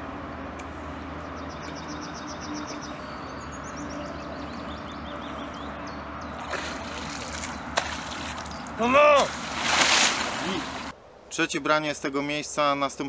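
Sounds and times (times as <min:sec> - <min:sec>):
songbird singing: 0:00.0 - 0:11.4.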